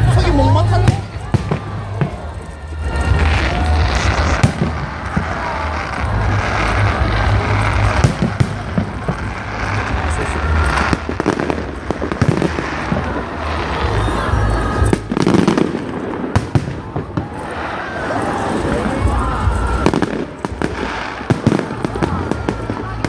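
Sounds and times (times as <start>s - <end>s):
firework bangs and crackles: 0.0s - 23.0s.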